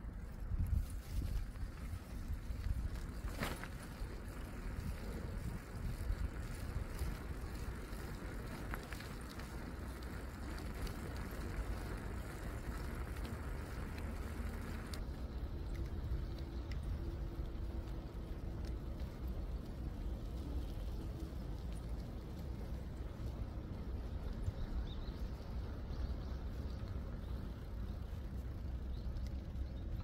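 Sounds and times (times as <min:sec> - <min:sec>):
wind buffeting microphone: 0:00.0 - 0:30.0
faint ticks: 0:00.7 - 0:25.1, 0:26.2 - 0:30.0.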